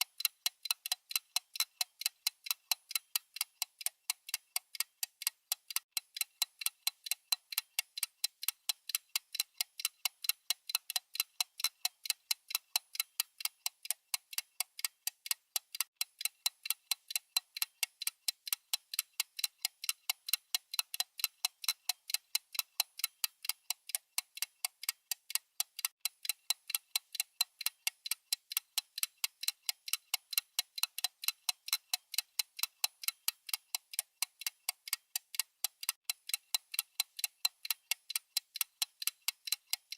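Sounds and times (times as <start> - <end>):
clock ticking fast: 0.0 - 39.9.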